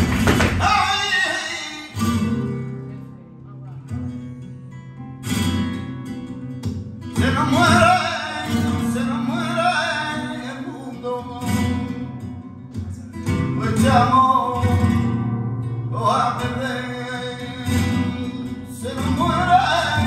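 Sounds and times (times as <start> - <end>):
flamenco guitar strumming: 0.0 - 20.0.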